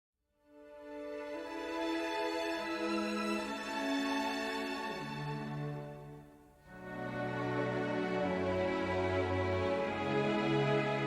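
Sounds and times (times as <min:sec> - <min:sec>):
soft sustained music chords: 0:00.5 - 0:11.0.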